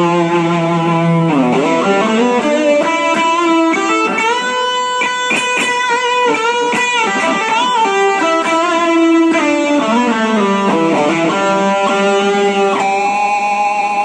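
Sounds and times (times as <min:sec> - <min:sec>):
electric guitar lead line: 0:00.0 - 0:14.0.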